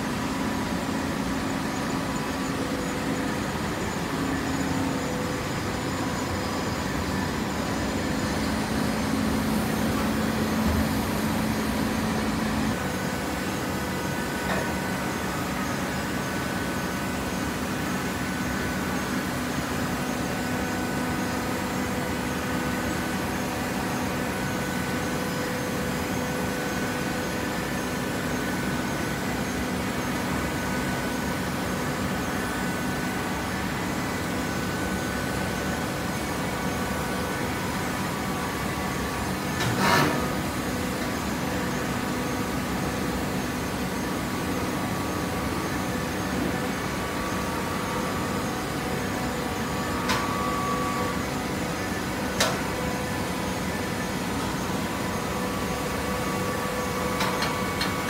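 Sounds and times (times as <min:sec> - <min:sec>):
machine hum with steady tones: 0:00.0 - 0:58.0.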